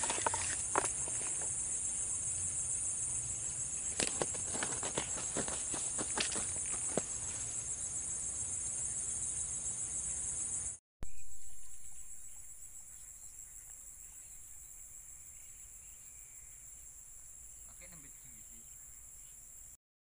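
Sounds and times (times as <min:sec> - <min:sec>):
insects chirring: 0:00.0 - 0:19.8.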